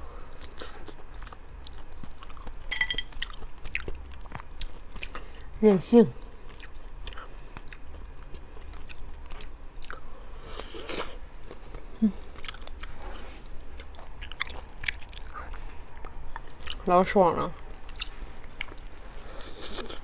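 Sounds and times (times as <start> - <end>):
person chewing and biting: 0.3 - 5.4, 6.5 - 16.8, 17.6 - 20.0.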